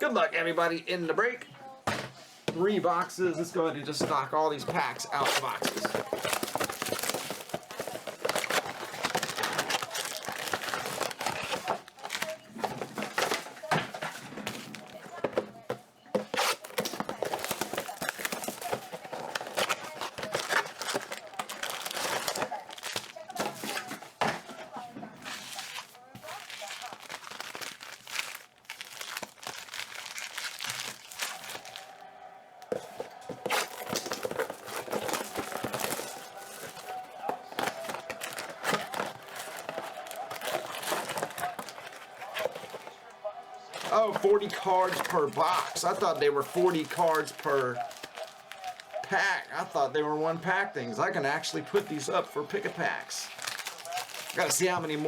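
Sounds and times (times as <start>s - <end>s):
card packs crinkling and rustling: 0.0s - 55.0s.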